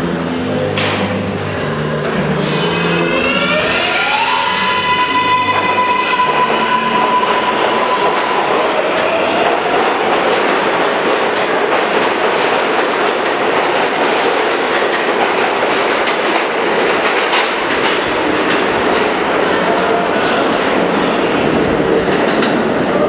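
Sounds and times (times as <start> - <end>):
steel wheels rushing on rail: 0.0 - 23.0
subway train departing: 0.0 - 23.0
train whine: 0.0 - 23.0.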